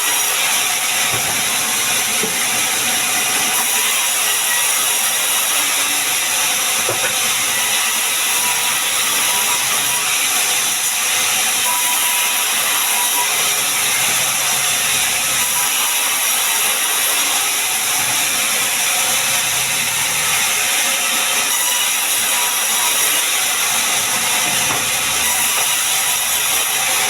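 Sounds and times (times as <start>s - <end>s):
sawmill machinery cutting wood: 0.0s - 27.0s.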